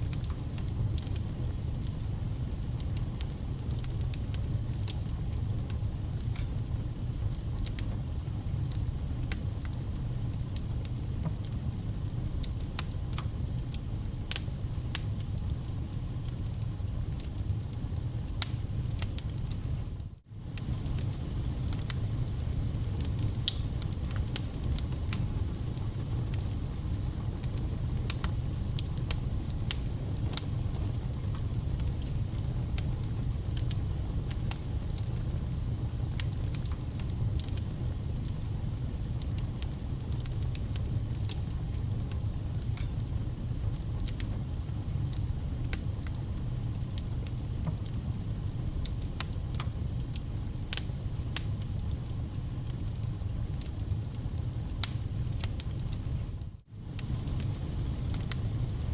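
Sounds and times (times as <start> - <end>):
low rumble of flames: 0.0 - 58.9
wood fire crackling and popping: 0.0 - 58.9.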